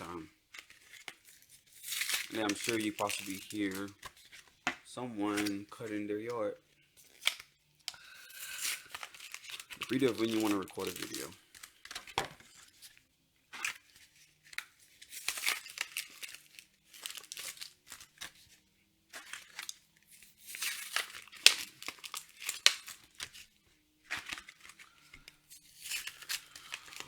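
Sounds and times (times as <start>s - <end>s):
foil packs being torn open: 0.0s - 4.6s, 5.2s - 12.9s, 13.6s - 18.6s, 19.2s - 27.0s
wrappers crinkling: 0.0s - 27.0s.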